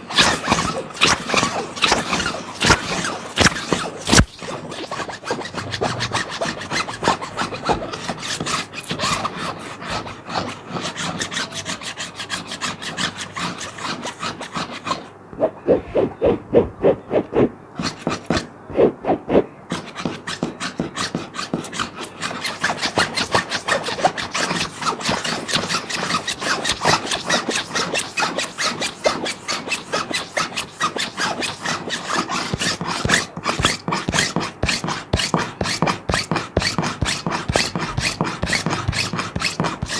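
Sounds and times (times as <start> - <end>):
scratching on plastic sheet: 0.0 - 39.9.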